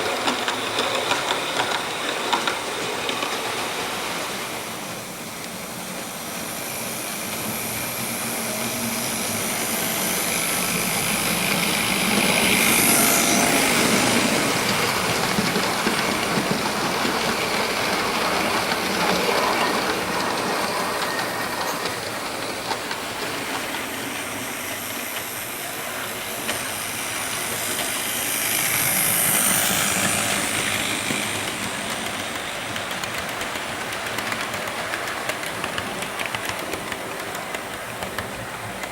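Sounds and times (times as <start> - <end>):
wheels clicking over rail joints: 0.0 - 4.2, 8.4 - 38.9
model train motor hum: 0.0 - 38.9.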